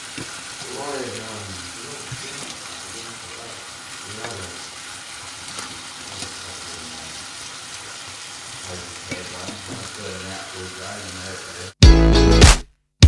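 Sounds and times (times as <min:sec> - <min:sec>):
steak sizzling in a pan: 0:00.0 - 0:11.8.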